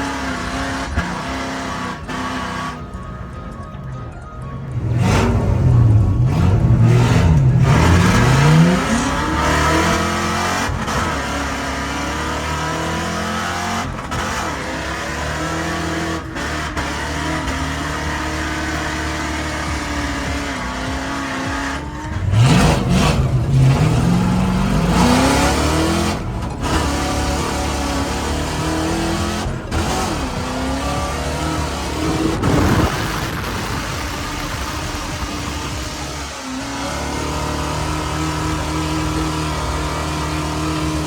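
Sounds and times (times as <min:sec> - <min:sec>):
car engine revving hard: 0:00.0 - 0:03.3, 0:04.7 - 0:41.0.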